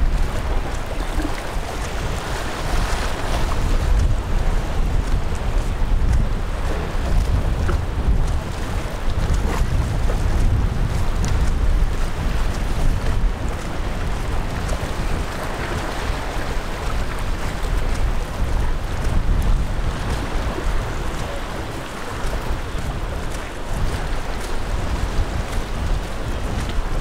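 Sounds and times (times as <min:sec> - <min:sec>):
sea wash: 0:00.0 - 0:27.0
wind buffeting microphone: 0:00.0 - 0:27.0.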